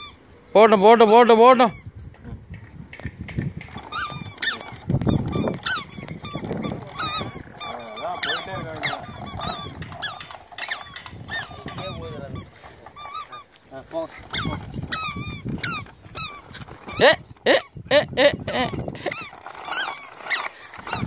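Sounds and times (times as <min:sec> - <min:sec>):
push walker squeaking: 0:00.9 - 0:21.0
wooden wheels rumbling on dirt: 0:01.3 - 0:21.0.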